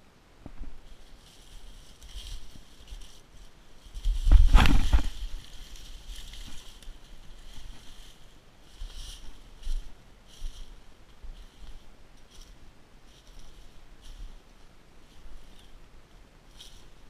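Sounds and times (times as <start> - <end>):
crunching and scraping through leaves: 0.6 - 15.7, 16.5 - 17.0
footsteps in leaf litter: 0.8 - 15.6.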